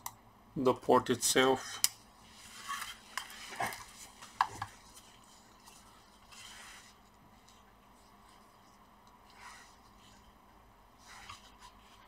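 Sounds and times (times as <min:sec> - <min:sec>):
soft rustling: 0:02.2 - 0:12.0.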